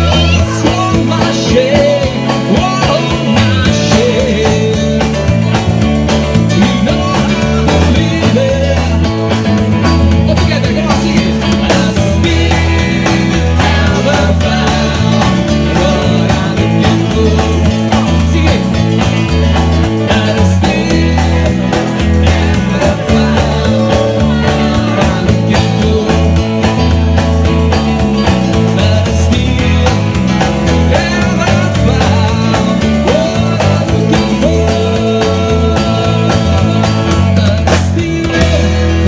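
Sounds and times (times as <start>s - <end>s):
rock band with singing: 0.0s - 39.0s.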